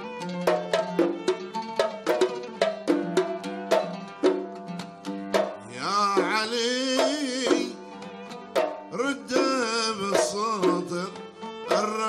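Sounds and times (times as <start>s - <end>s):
hand drums beating: 0.0s - 12.0s.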